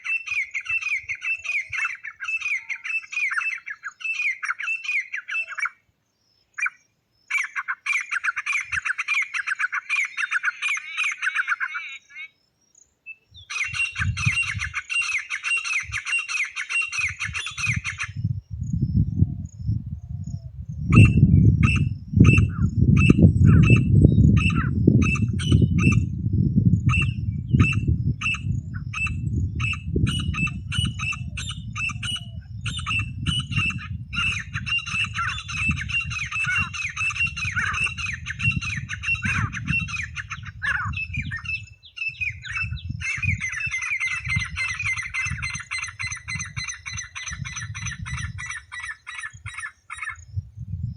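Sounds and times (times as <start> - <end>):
francolin calling: 0.0 - 50.4.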